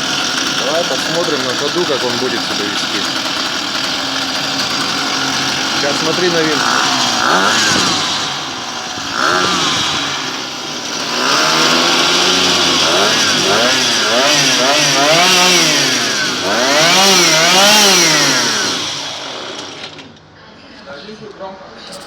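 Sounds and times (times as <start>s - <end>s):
outboard motor revving: 0.0s - 20.1s.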